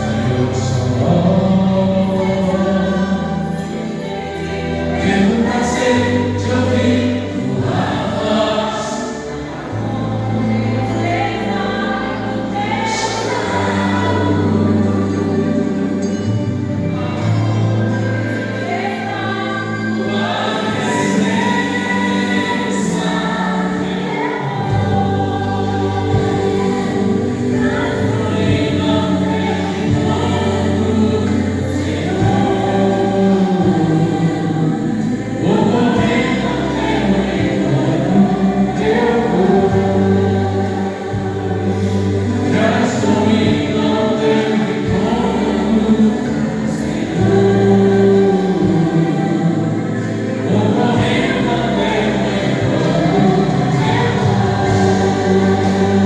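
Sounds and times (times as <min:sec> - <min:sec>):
musical accompaniment: 0:00.0 - 0:56.0
steady bass line: 0:00.0 - 0:56.0
vocal group singing a hymn: 0:00.0 - 0:56.0.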